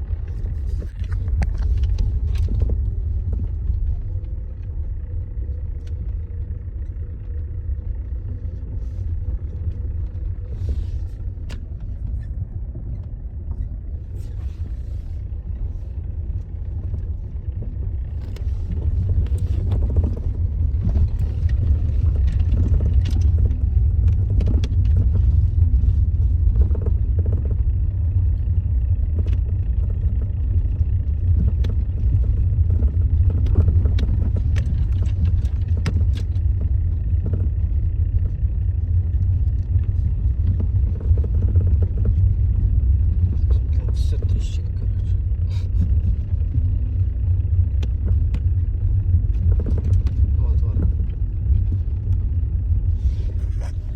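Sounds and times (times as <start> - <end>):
car driving rumble: 0.0 - 53.9
suspension knocks and clicks: 0.0 - 53.9.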